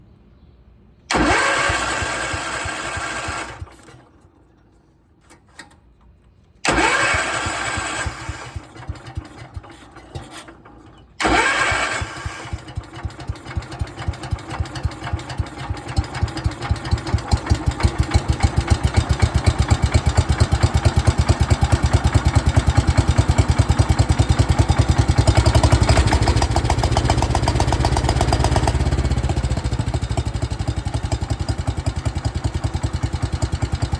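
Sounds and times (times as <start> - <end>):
tractor engine sputtering and running: 1.1 - 5.8, 6.6 - 33.9
engine starter cranking: 1.1 - 33.9.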